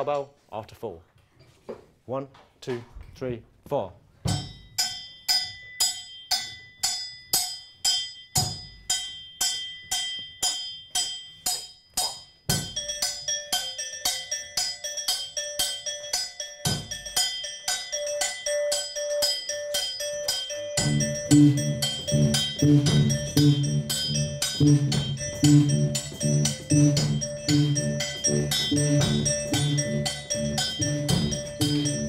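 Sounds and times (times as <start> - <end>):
cowbell rhythm: 4.3 - 32.0
pitched percussion riff: 4.3 - 32.0.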